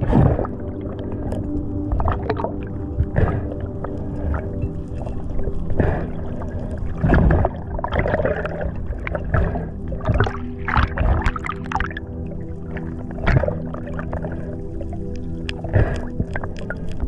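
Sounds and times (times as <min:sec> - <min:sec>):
steady low hum: 0:00.0 - 0:17.0
underwater rushing and gurgling water: 0:00.0 - 0:17.0.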